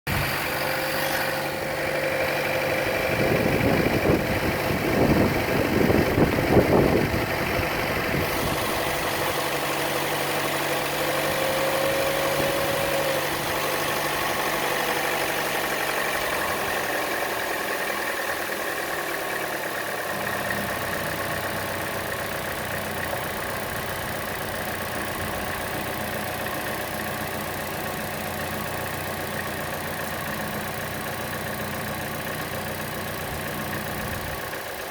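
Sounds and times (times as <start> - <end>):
car engine idling: 0.1 - 34.9
engine ticking: 0.1 - 34.9.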